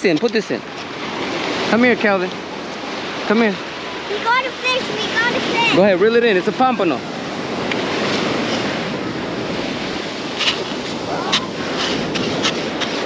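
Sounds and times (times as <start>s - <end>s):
ocean surf breaking: 0.0s - 13.0s
wind buffeting microphone: 0.5s - 13.0s.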